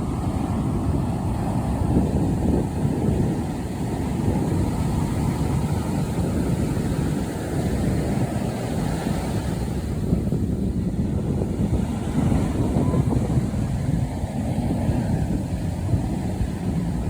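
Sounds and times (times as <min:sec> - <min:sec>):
ocean waves washing: 0:00.0 - 0:17.0
wind buffeting microphone: 0:00.0 - 0:17.0.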